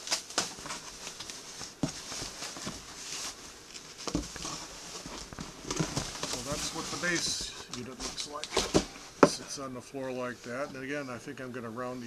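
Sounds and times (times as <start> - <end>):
plastic wrapping rustling: 0.0 - 11.0.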